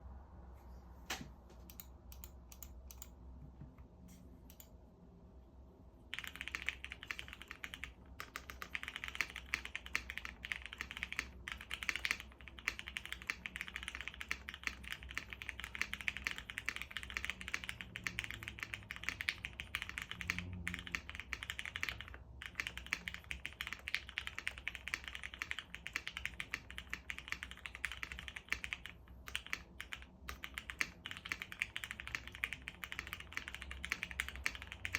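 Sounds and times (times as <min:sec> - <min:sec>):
typing on mechanical keyboard: 0:06.1 - 0:34.9.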